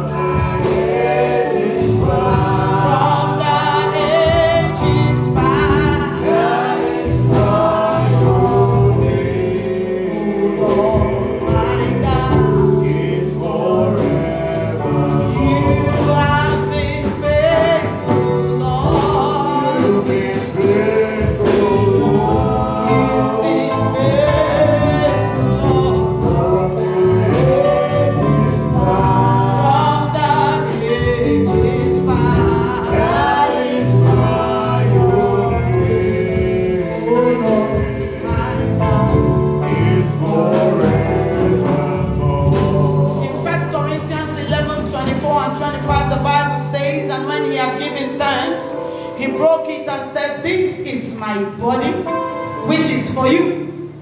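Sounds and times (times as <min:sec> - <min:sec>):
bass and drums: 0:00.0 - 0:46.4
gospel choir singing: 0:00.0 - 0:54.0.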